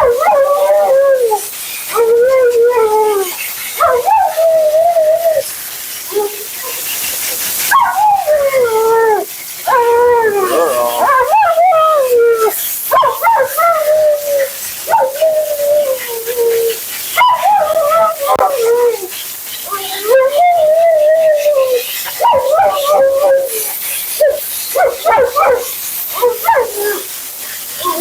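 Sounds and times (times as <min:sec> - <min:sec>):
husky howling: 0:00.0 - 0:05.5, 0:06.1 - 0:06.8, 0:07.7 - 0:27.1, 0:27.8 - 0:28.0.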